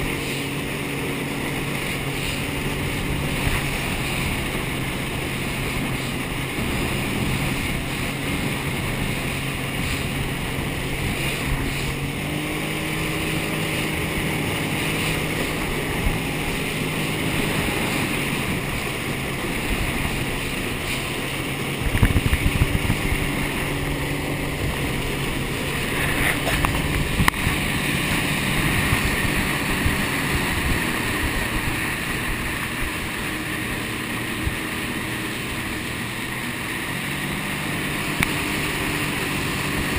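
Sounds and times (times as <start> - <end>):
jet ski engine running: 0.0 - 39.9
water rushing: 0.0 - 39.9
wind on microphone: 0.0 - 39.9
choppy thumps on water: 1.6 - 36.5.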